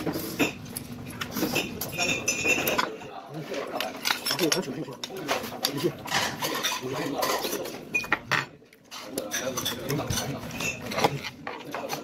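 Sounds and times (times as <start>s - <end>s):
cutlery clinking on plates: 0.0s - 12.0s.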